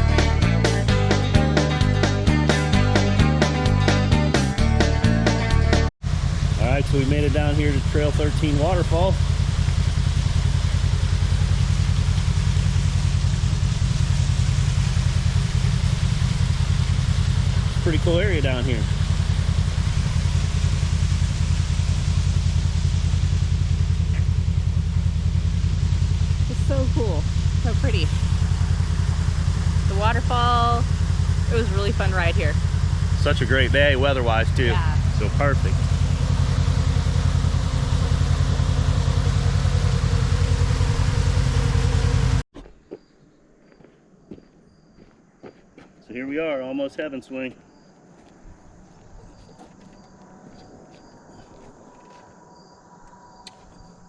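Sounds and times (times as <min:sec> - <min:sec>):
vehicle engine idling: 0:00.0 - 0:42.5, 0:44.3 - 0:54.0.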